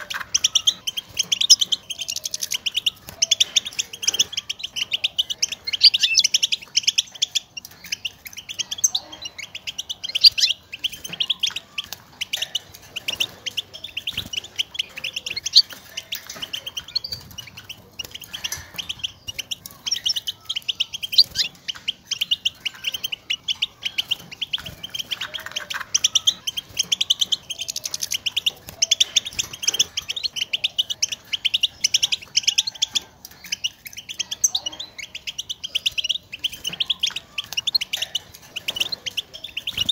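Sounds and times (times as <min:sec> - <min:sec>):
goldfinch twittering: 0:00.0 - 0:39.9.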